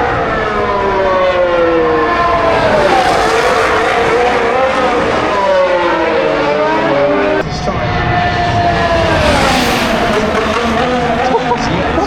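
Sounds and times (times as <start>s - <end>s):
racing cars passing at high revs: 0.0s - 12.0s.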